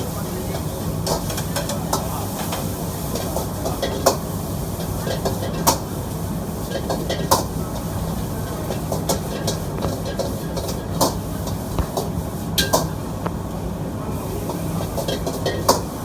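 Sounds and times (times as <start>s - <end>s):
gas burner roaring: 0.0s - 16.0s.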